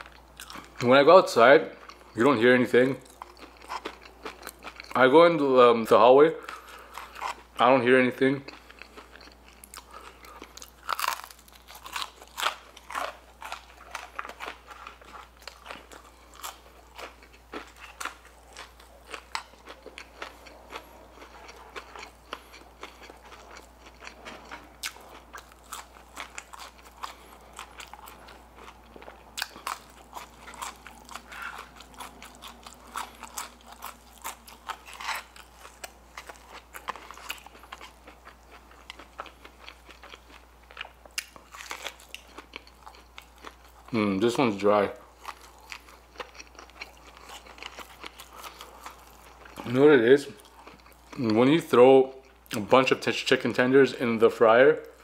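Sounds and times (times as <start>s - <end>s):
crunching and chewing fried food: 0.0s - 5.5s, 6.3s - 53.6s.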